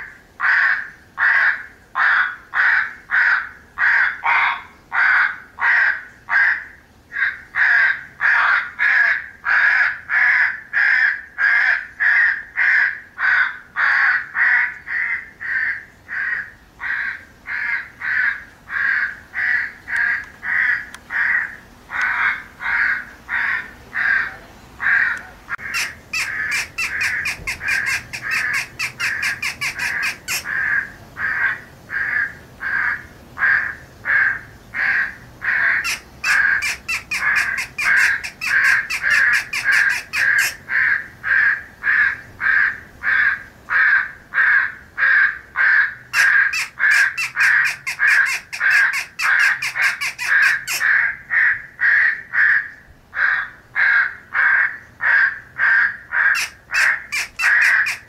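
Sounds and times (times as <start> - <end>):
crows cawing: 0.0 - 58.0.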